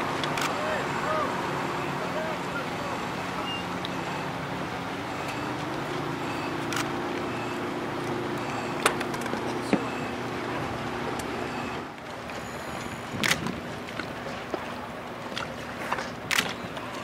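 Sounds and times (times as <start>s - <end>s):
motorboat engine running: 0.0s - 17.0s
wind and water noise: 0.0s - 17.0s.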